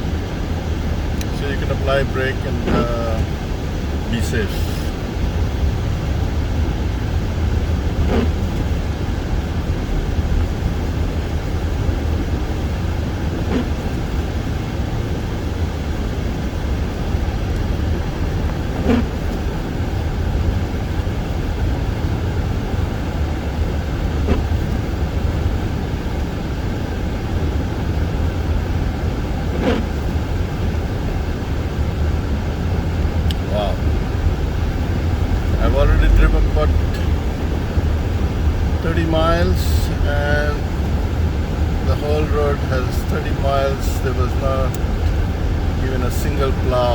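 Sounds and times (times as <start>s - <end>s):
tyres and engine rumbling: 0.0s - 46.9s.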